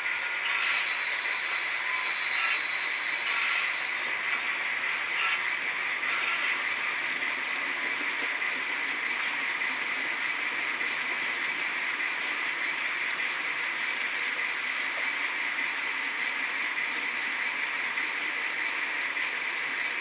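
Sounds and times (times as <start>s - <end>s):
model train motors whirring: 0.0s - 20.0s.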